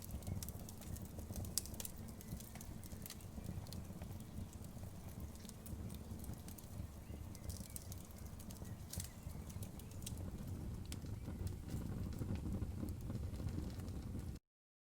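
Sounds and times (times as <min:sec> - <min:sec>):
campfire crackling and popping: 0:00.0 - 0:14.4
low fire rumble: 0:00.0 - 0:14.4.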